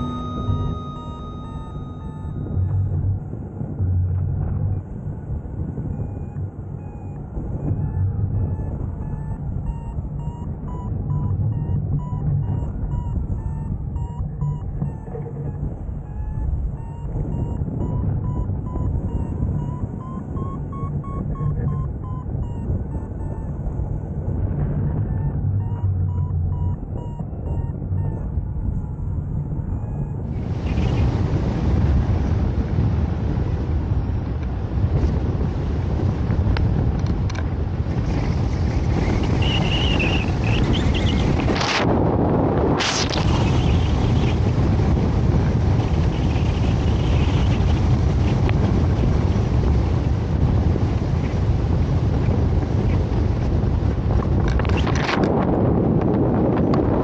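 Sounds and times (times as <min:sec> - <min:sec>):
variometer beeping: 0:00.0 - 0:31.0, 0:36.2 - 0:50.8
wind rushing over microphone: 0:00.0 - 0:57.0.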